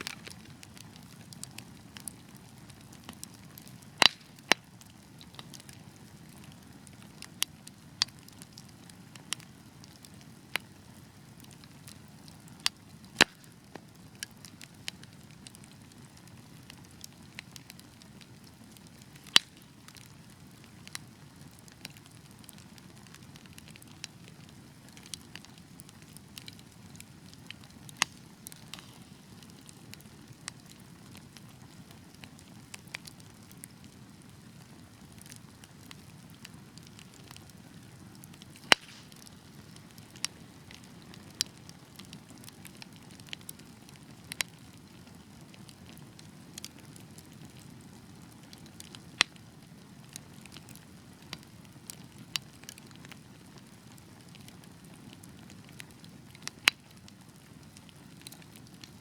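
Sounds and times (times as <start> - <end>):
burning logs popping: 0.0 - 59.0
wood fire crackling: 0.0 - 59.0.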